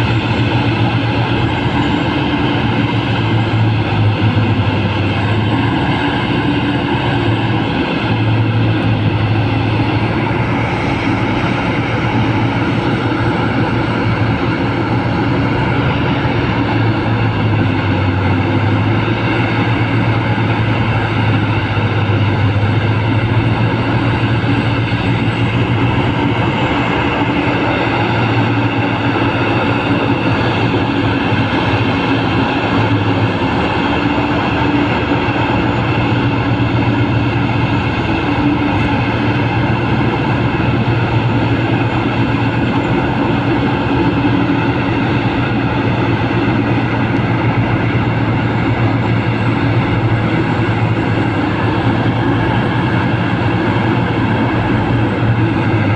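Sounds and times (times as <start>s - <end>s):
excavator diesel engine droning: 0.0s - 55.9s.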